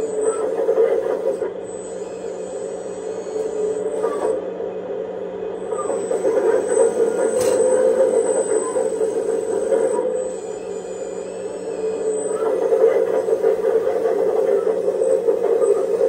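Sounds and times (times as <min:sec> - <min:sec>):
simulated diesel engine from speaker: 0:00.0 - 0:16.0.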